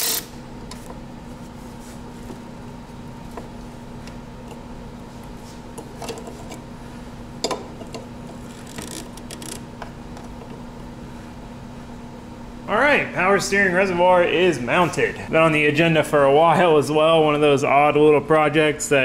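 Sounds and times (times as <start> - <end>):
workshop hum: 0.0 - 19.0.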